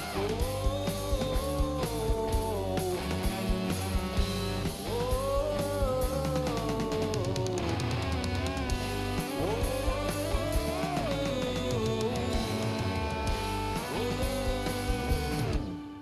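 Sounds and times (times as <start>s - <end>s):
bending guitar melody: 0.0s - 16.0s
live rock band playing: 0.0s - 16.0s.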